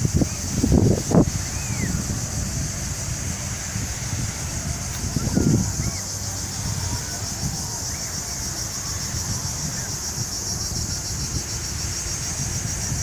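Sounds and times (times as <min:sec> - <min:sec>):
high-pitched insect chorus: 0:00.0 - 0:13.0
wind rumble on microphone: 0:00.0 - 0:13.0.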